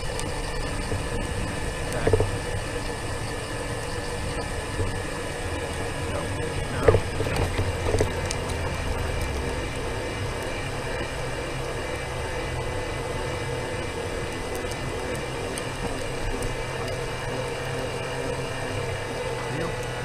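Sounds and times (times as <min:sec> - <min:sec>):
electric scooter motor hum: 0:00.0 - 0:20.0
tyre and road noise: 0:00.0 - 0:20.0.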